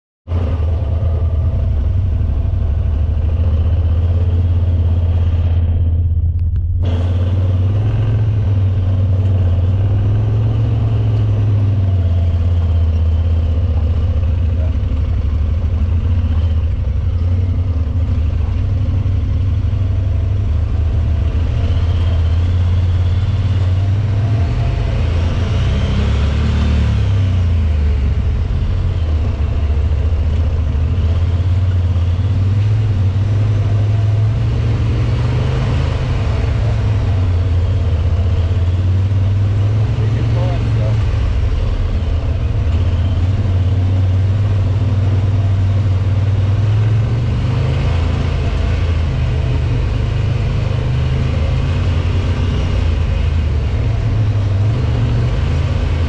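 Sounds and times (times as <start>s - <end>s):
driveline and tyre noise: 0.2s - 56.0s
utility vehicle engine drone: 0.2s - 56.0s.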